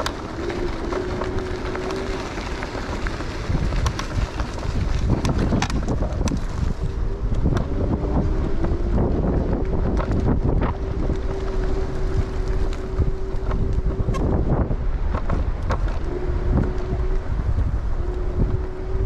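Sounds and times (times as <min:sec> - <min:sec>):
electric motor whine: 0:00.0 - 0:19.0
wind buffeting microphone: 0:00.0 - 0:19.0.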